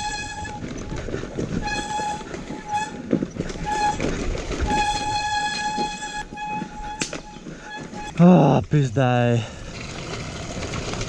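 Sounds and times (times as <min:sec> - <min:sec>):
brakes squealing: 0:00.0 - 0:11.0
rough engine and tyre noise: 0:00.0 - 0:11.0.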